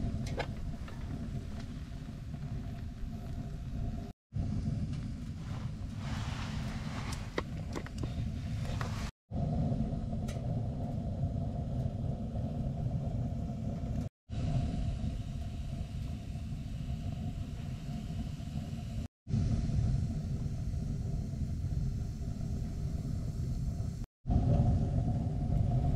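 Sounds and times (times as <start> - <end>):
fire crackles: 0.0 - 25.9
wood fire rumbling: 0.0 - 25.9.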